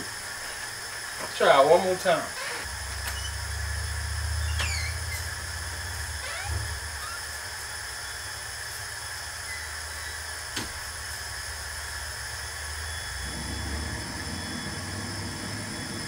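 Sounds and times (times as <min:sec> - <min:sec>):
gas grill hissing: 0:00.0 - 0:16.0
burner igniting rush: 0:01.8 - 0:16.0
low hum: 0:02.4 - 0:16.0.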